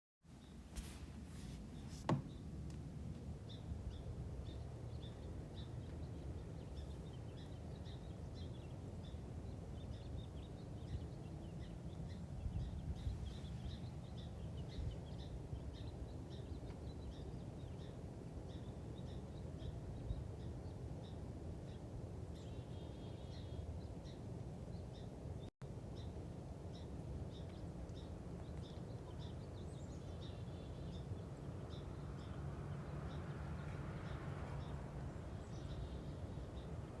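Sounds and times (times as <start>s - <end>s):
small birds chirping: 3.3s - 25.2s, 25.9s - 37.0s.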